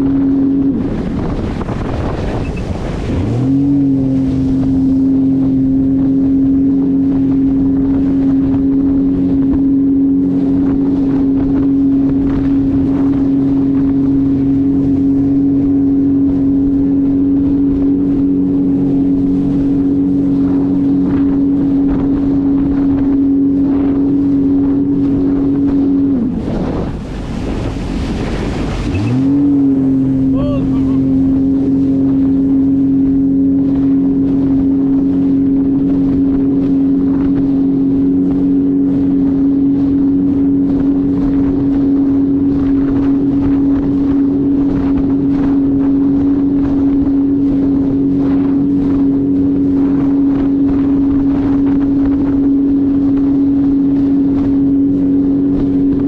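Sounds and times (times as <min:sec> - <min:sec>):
jet ski engine running: 0:00.0 - 0:56.0
wind on microphone: 0:00.0 - 0:56.0.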